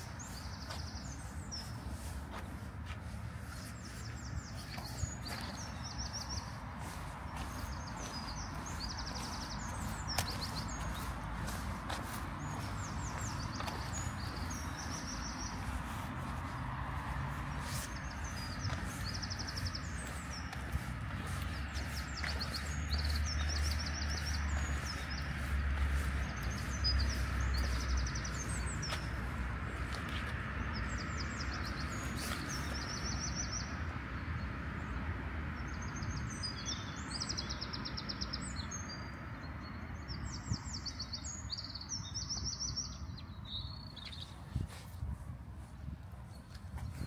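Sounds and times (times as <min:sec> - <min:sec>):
small songbirds singing: 0:00.0 - 0:47.0.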